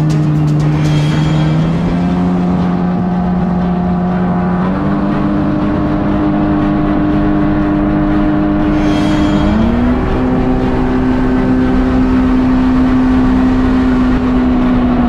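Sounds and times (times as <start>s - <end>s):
jet ski engine running: 0.0s - 15.0s
rushing wind: 0.0s - 15.0s.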